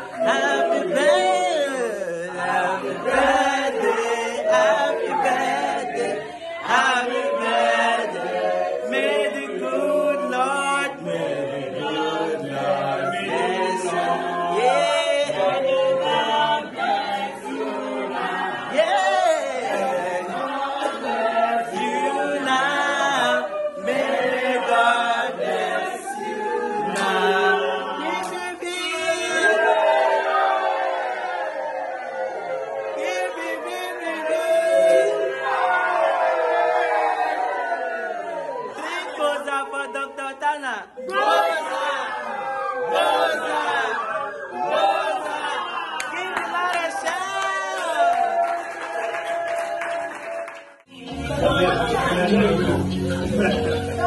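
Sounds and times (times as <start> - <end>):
group singing unaccompanied: 0.0 - 46.3, 50.8 - 54.0.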